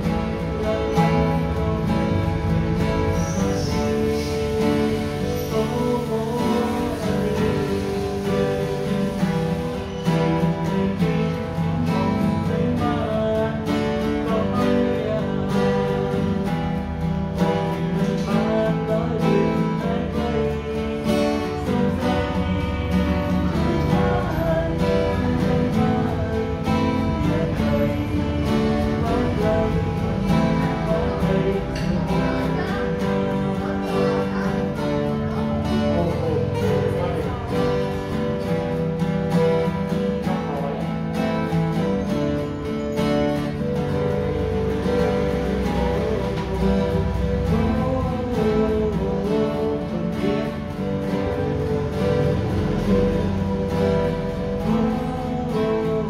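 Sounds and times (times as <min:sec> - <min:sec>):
acoustic guitars playing: 0:00.0 - 0:56.0.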